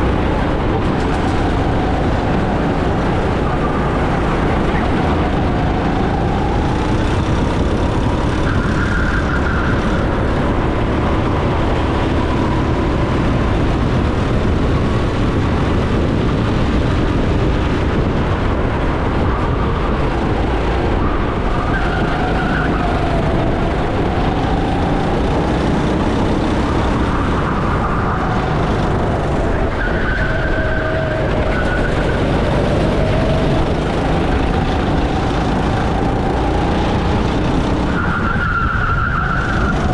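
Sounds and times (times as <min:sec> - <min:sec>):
go-kart engine racing: 0:00.0 - 0:39.9
wind rumble on microphone: 0:00.0 - 0:39.9.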